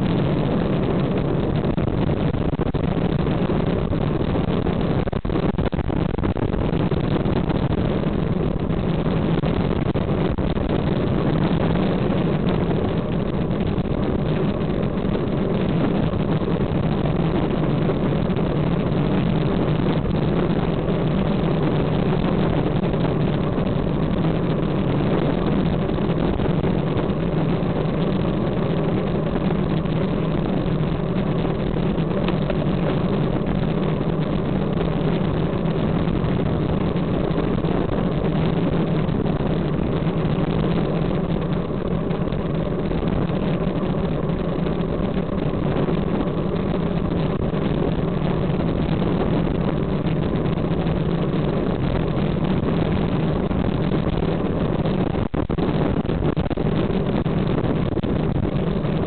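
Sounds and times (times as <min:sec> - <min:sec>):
bicycle tyre rumble: 0:00.0 - 0:59.0
wind rushing on microphone: 0:00.0 - 0:59.0.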